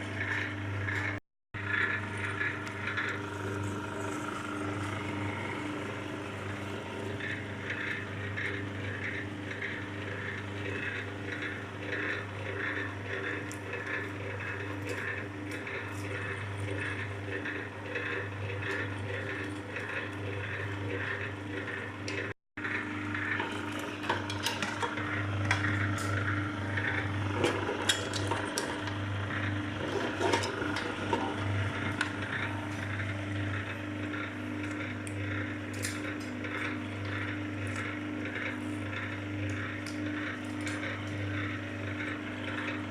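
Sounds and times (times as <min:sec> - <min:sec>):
machine motor hum: 0:00.0 - 0:42.9
cable ticking and scraping: 0:00.2 - 0:42.9.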